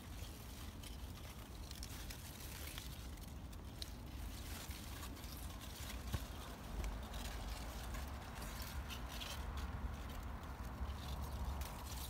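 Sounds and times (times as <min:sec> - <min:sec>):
leaves and vines rustling: 0:00.0 - 0:12.0.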